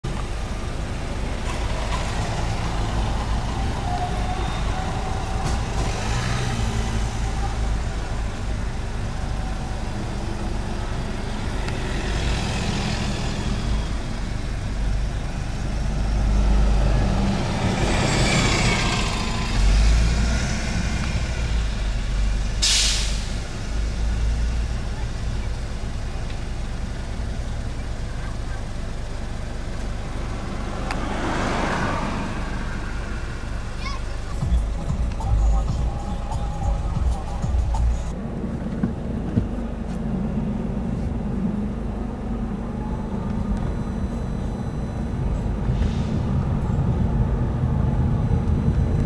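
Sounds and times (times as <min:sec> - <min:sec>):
rumble of passing vehicles: 0:00.0 - 0:49.0
tram crossing: 0:00.1 - 0:49.0.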